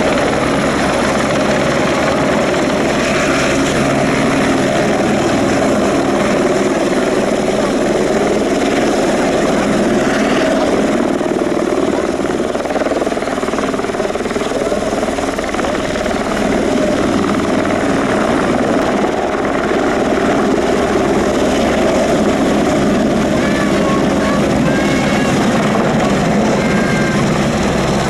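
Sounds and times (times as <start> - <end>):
helicopter hovering: 0.0 - 28.0.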